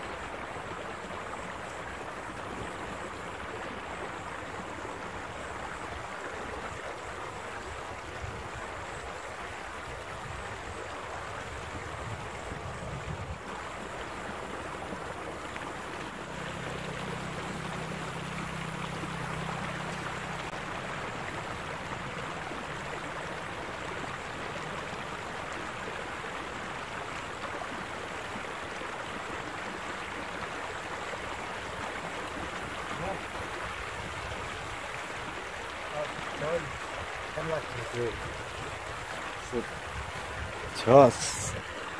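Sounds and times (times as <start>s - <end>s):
water rushing in channel: 0.0s - 41.9s.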